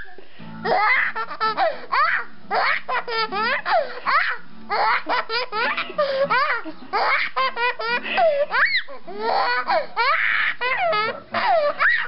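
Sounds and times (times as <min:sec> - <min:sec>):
baby laughing: 0:00.0 - 0:12.0.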